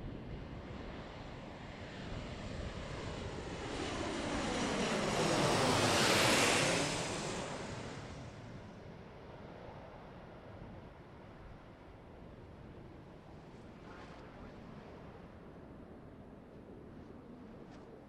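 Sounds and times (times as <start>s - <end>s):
turboprop aircraft passing by: 0.0s - 18.0s.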